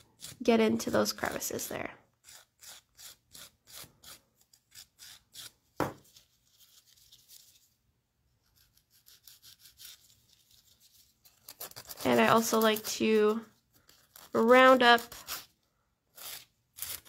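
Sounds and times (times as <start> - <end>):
nail file scraping acrylic: 0.0 - 1.5, 2.1 - 5.6, 8.3 - 17.0.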